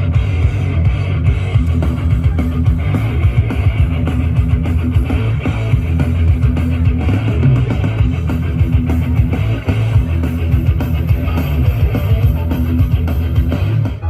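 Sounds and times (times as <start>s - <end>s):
rock music through small speaker: 0.0s - 14.0s.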